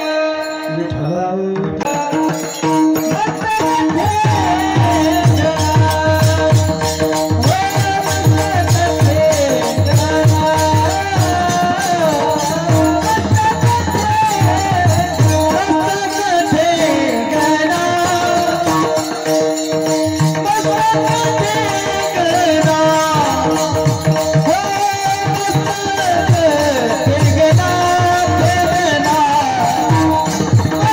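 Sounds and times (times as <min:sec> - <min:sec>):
jingling hand percussion: 0:00.0 - 0:30.9.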